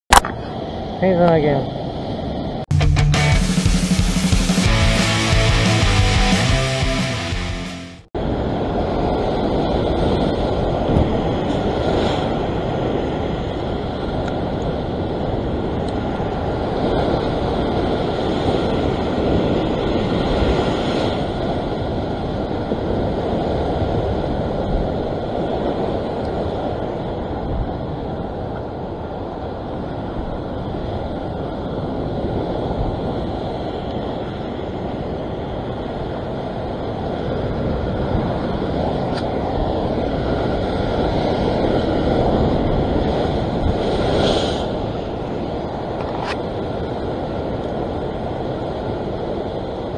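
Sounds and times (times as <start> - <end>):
surf breaking over rocks: 8.2 - 49.9
wind noise on microphone: 8.2 - 49.9.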